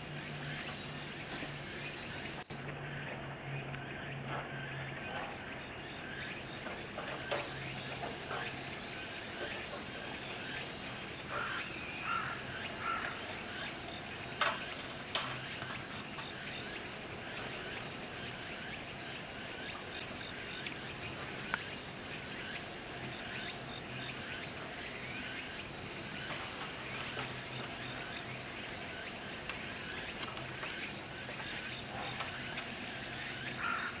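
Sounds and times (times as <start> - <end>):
bird calls: 0.0 - 34.0
high-pitched insect drone: 0.0 - 34.0.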